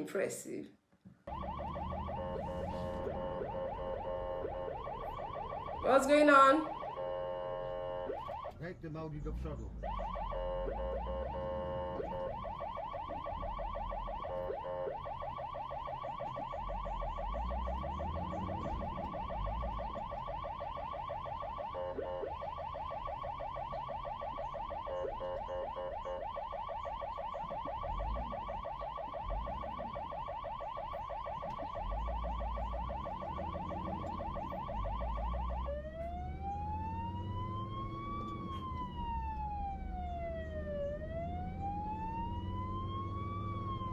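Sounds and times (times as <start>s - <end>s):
emergency vehicle siren: 1.3s - 43.9s.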